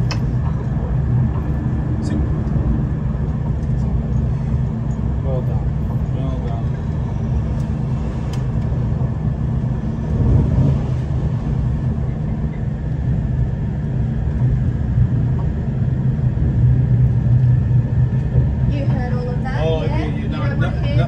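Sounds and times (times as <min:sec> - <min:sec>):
diesel train rumble: 0:00.0 - 0:21.0
faint steady whine: 0:00.0 - 0:21.0.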